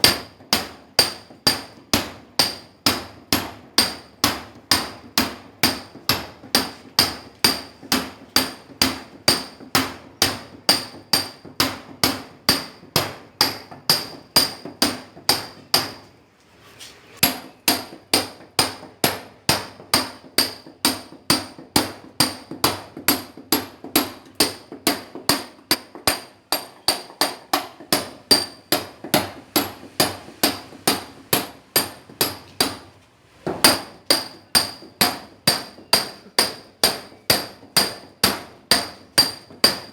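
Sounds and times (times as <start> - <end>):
sledgehammer striking steel chisel: 0.0 - 16.1, 17.2 - 32.9, 33.5 - 39.9.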